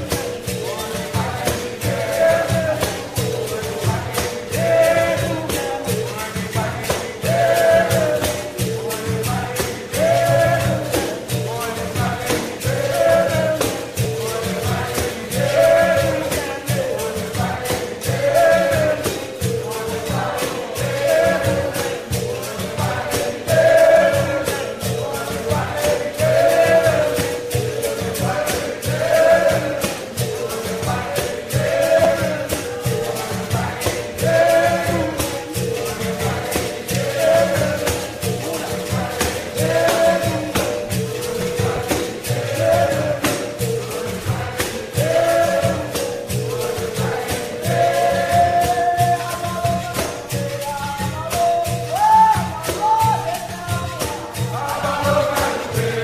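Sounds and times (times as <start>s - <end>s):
chorus singing: 0.0s - 56.0s
hand percussion: 0.0s - 56.0s
tambourine jingle: 0.0s - 56.0s.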